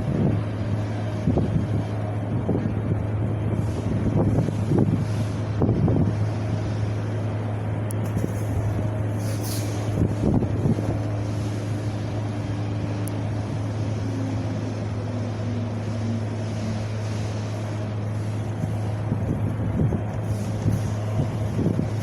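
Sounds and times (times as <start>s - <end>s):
wind buffeting microphone: 0.0s - 16.4s, 17.5s - 22.0s
steady low rumble: 0.0s - 22.0s.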